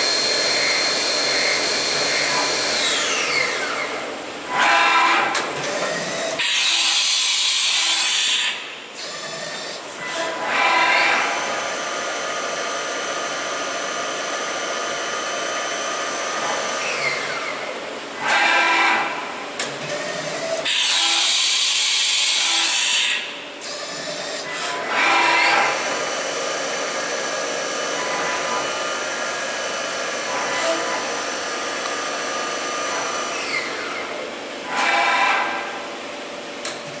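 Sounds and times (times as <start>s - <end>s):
cnc machine whine: 0.0s - 37.0s.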